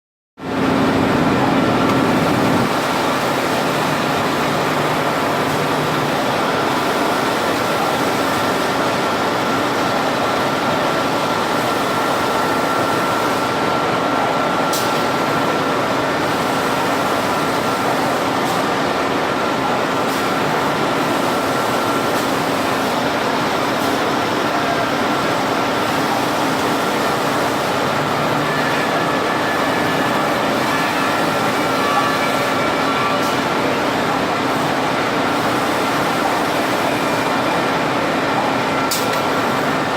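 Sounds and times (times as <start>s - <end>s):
machine whirring with high whine: 0.4s - 39.9s.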